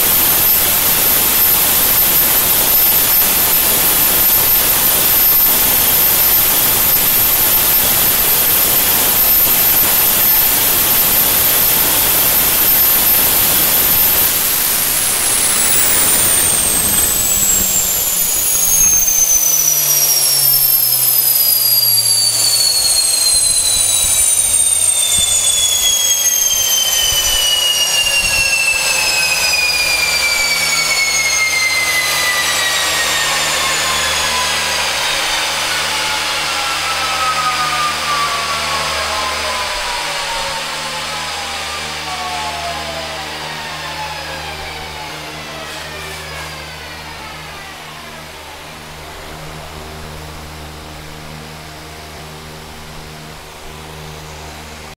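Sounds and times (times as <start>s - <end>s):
gas turbine spooling down: 0.0s - 54.9s
low hum: 0.0s - 54.9s.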